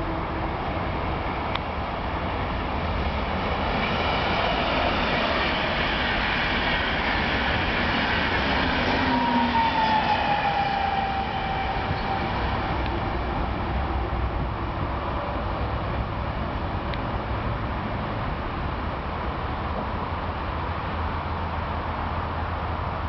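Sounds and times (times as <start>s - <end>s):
electric locomotive whine: 0.0s - 23.0s
train coaches rumbling on rails: 0.0s - 23.0s.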